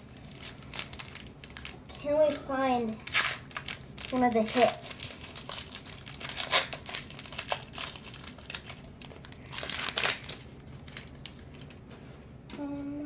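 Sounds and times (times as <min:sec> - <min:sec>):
plastic wrapper tearing and crinkling: 0:00.0 - 0:11.8.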